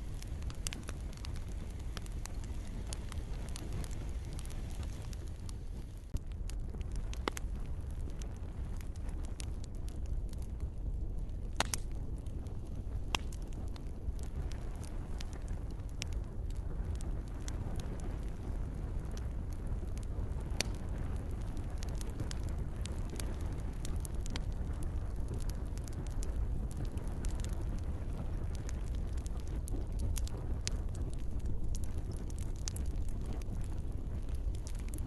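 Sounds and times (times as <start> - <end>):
campfire crackling and popping: 0.0 - 35.0
soft patter of rain: 0.0 - 35.0.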